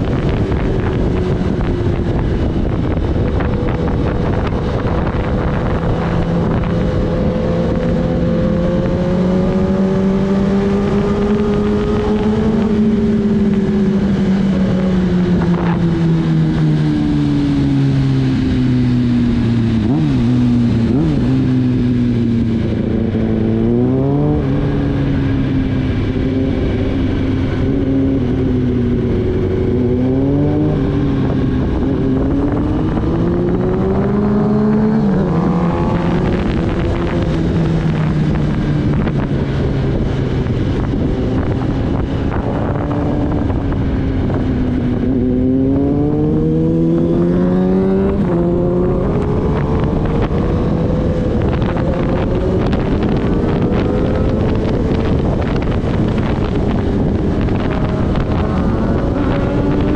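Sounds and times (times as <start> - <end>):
motorcycle engine revving: 0.0 - 59.9
wind noise on microphone: 0.0 - 59.9.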